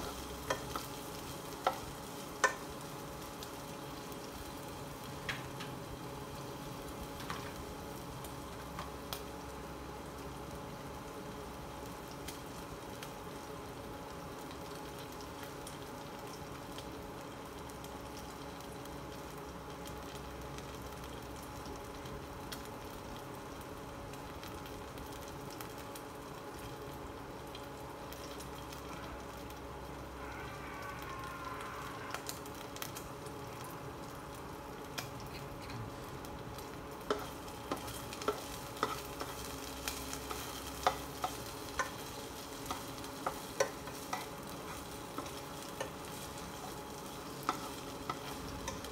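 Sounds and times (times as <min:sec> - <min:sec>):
low steady hum: 0:00.0 - 0:48.9
onion sizzling in oil: 0:00.0 - 0:48.9.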